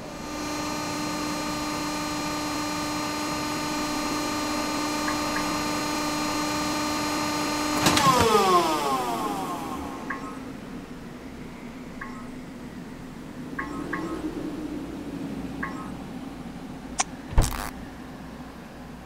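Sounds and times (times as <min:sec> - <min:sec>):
cable car mechanical hum: 0:00.0 - 0:19.0.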